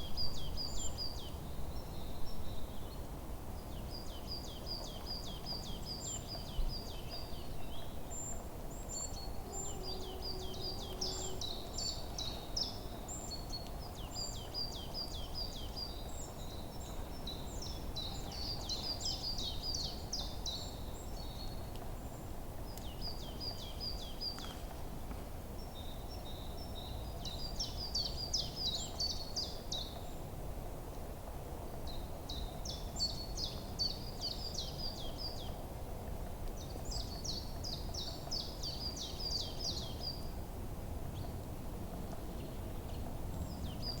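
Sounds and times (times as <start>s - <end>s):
songbird singing: 0.0s - 31.1s, 31.8s - 40.5s, 41.1s - 44.0s.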